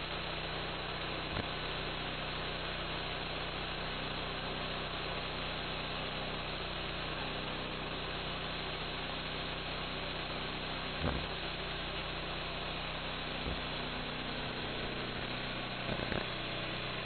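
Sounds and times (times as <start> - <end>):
gas engine running steadily: 0.0 - 17.0.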